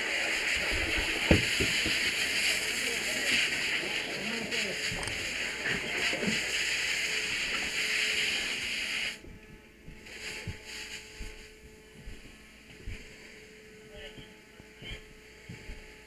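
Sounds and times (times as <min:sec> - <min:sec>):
loud steady hiss: 0:00.0 - 0:16.0.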